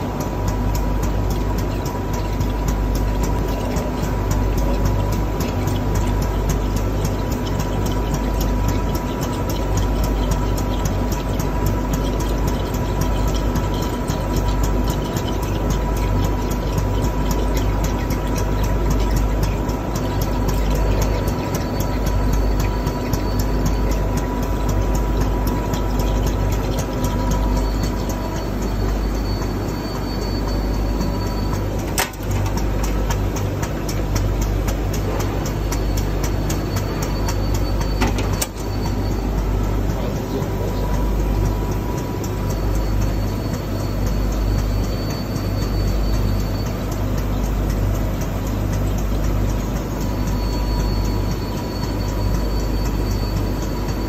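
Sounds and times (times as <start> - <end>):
coolant churning and bubbling: 0.0 - 54.0
fast regular clicking: 0.0 - 54.0
low machine hum: 0.0 - 54.0
pump low rumble: 0.0 - 54.0.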